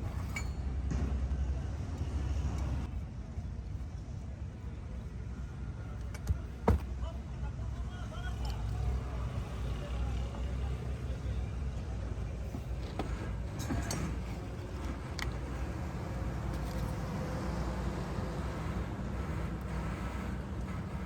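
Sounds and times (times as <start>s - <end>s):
traffic engines rumbling: 0.0s - 21.0s.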